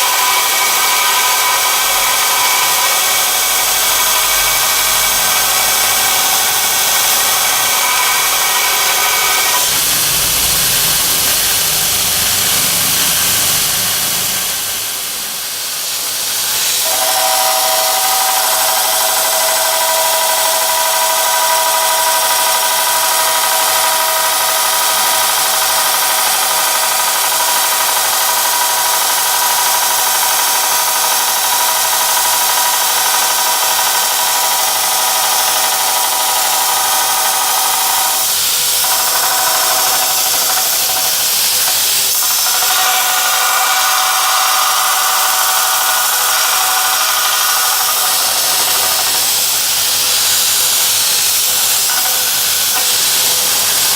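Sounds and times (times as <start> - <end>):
motor whine: 0.0 - 15.6, 16.3 - 53.9
belt hissing against metal: 0.0 - 53.9.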